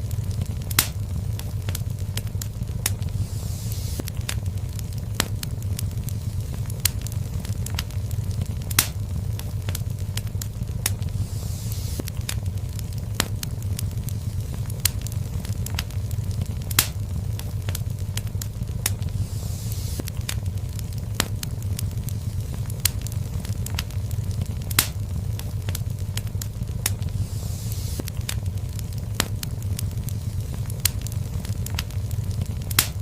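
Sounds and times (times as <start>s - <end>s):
fire crackles and pops: 0.0s - 33.0s
low rumble of flames: 0.0s - 33.0s
soft hiss: 0.0s - 33.0s.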